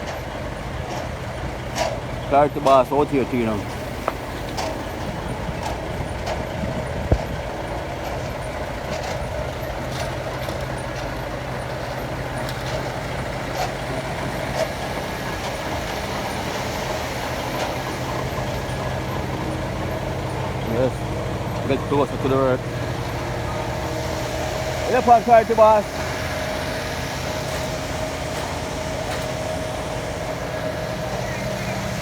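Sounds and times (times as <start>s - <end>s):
diesel construction machinery running: 0.0s - 32.0s.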